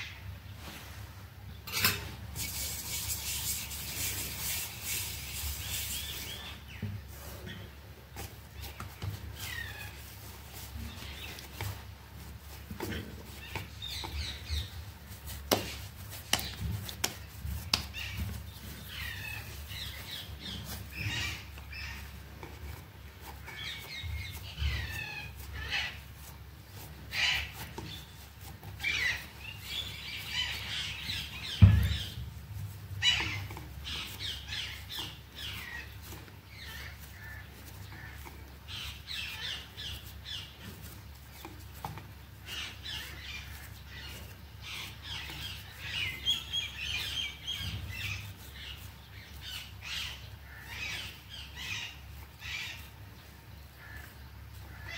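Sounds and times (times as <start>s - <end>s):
hands kneading dough on wood: 0.0s - 54.9s
small birds chirping: 0.0s - 54.9s.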